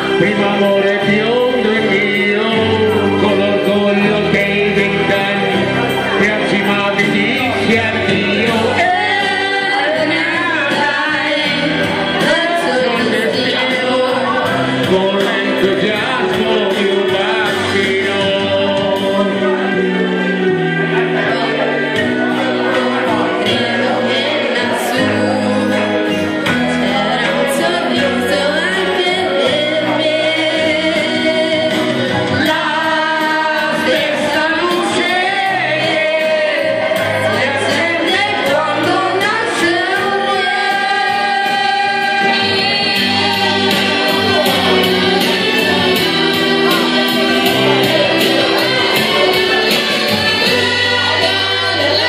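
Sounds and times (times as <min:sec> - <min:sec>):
instrumental backing music: 0:00.0 - 0:52.0
man singing into a microphone: 0:00.0 - 0:52.0.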